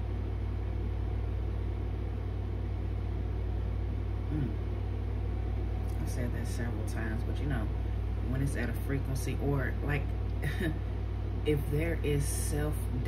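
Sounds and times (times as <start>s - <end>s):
low rumble with pulsing hum: 0.0s - 13.0s.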